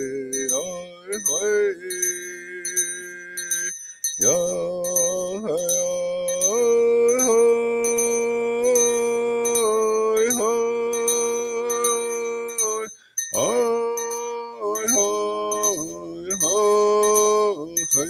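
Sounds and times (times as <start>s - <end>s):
handbell ringing: 0.0s - 18.0s
man singing prayer song: 0.0s - 18.0s.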